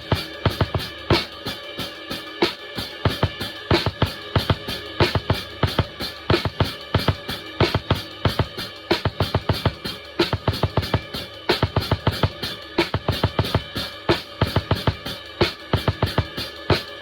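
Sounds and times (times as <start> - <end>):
drum kit groove: 0.0 - 17.0.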